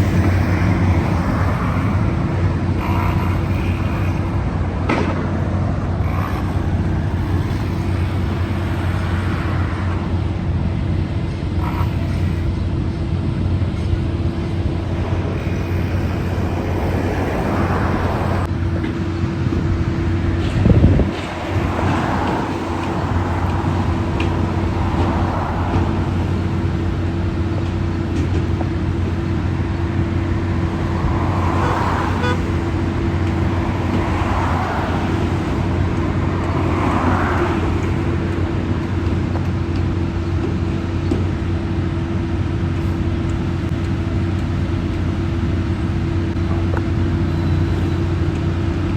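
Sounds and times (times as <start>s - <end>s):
traffic hum: 0.0s - 48.9s
vehicles passing: 0.0s - 48.9s.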